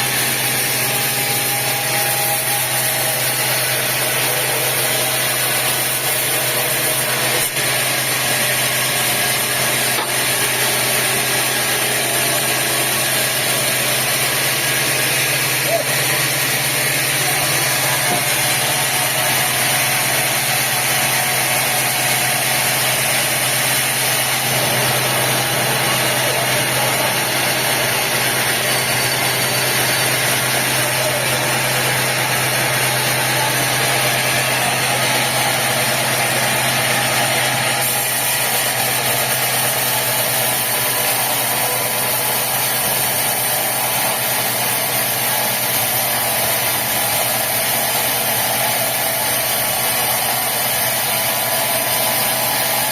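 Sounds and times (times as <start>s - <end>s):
sawmill machinery drone: 0.0s - 52.9s.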